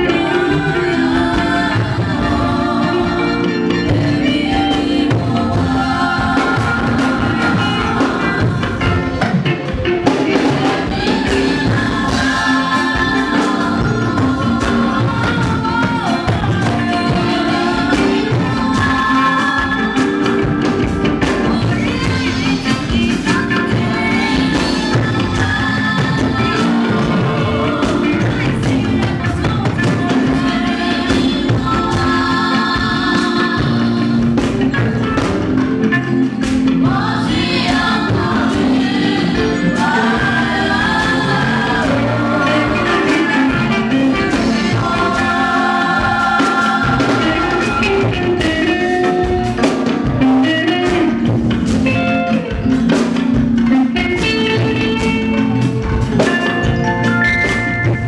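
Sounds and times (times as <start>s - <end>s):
drums and percussion: 0.0s - 58.0s
voices singing: 0.0s - 58.0s.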